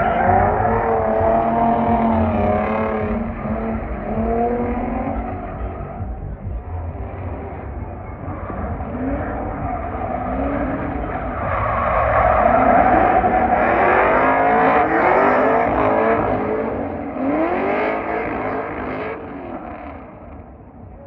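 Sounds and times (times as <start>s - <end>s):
car engine revving hard: 0.0s - 20.5s.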